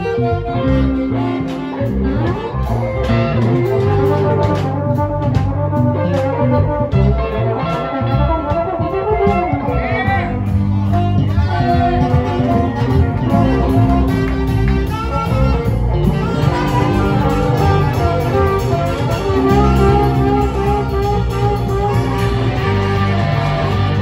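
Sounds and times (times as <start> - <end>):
live band playing amplified music: 0.0 - 24.0
trombone: 0.0 - 24.0.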